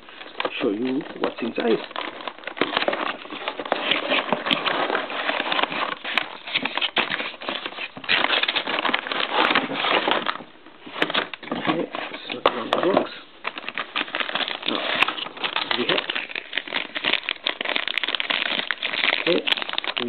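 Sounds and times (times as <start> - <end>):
cardboard and plastic rustling: 0.0 - 20.0.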